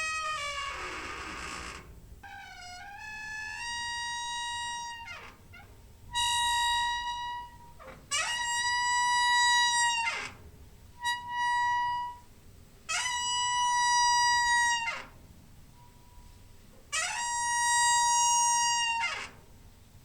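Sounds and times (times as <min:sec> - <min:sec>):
door hinge squeaking: 0:00.0 - 0:12.3, 0:12.9 - 0:15.2, 0:16.9 - 0:19.5.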